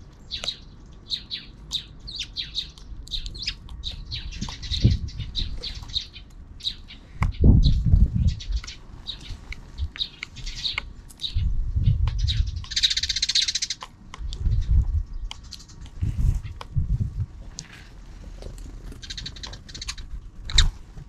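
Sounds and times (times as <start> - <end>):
sparrows chirping: 0.0 - 21.0
low rumbles: 2.8 - 21.0.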